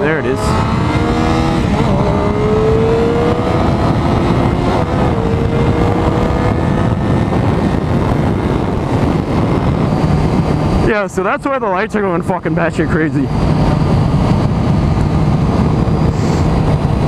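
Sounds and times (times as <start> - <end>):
motorcycle engine accelerating: 0.0 - 17.0
wind rush: 0.0 - 17.0.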